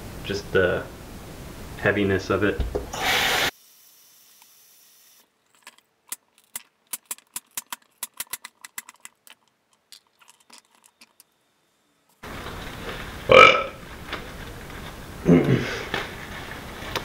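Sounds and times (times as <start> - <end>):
faint steady hiss: 0.0 - 7.2, 8.7 - 17.0.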